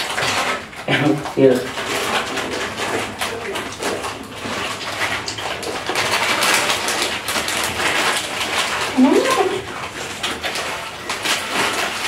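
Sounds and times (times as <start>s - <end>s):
plastic sachets crinkling: 0.0s - 12.0s.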